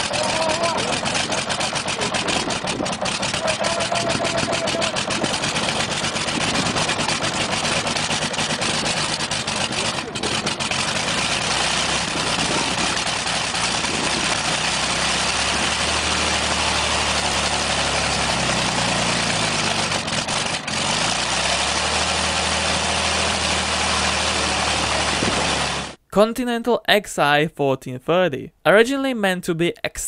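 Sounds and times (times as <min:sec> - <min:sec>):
aircraft engine idling: 0:00.0 - 0:26.0.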